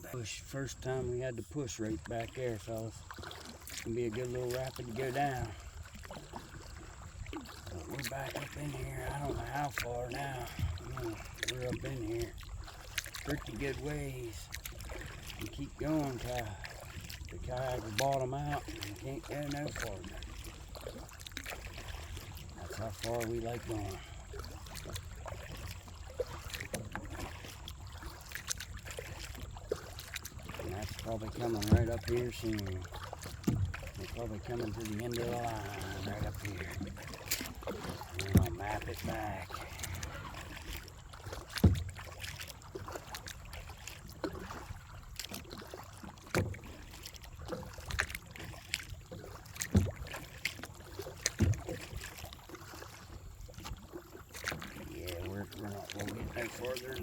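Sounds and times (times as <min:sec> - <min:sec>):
paddle splashing in water: 0:00.0 - 0:57.0.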